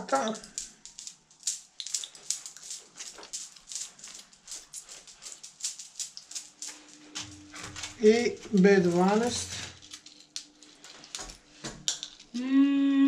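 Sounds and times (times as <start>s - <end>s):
foil blister pack crackling: 0.0s - 11.8s
tablets breaking: 0.0s - 12.4s.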